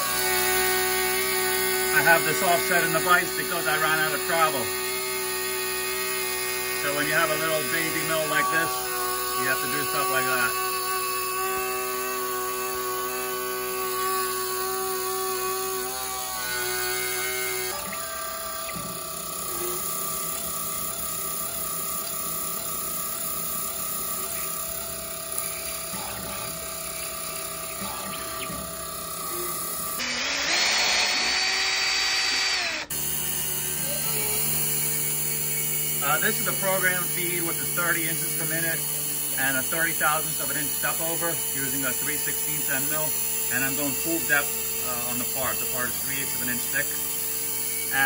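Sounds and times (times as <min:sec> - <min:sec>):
handheld drill whine: 0:00.0 - 0:48.0
milling machine whine: 0:00.0 - 0:48.0.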